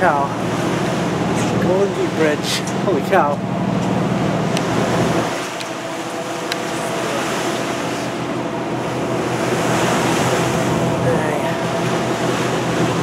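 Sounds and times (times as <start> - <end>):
boat engine hum: 0.0 - 13.0
water noise: 0.0 - 13.0
wind: 0.0 - 13.0.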